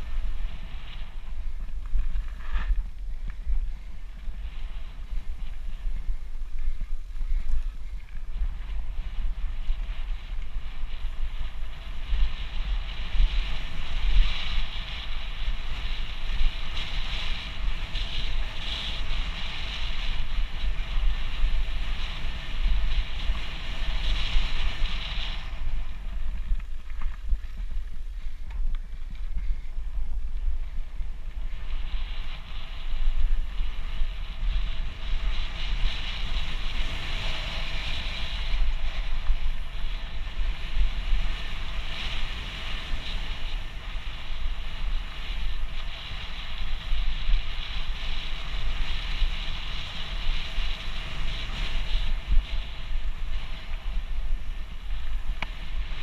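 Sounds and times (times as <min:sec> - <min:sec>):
bike rattling: 0:00.0 - 0:56.0
wind buffeting microphone: 0:00.0 - 0:56.0.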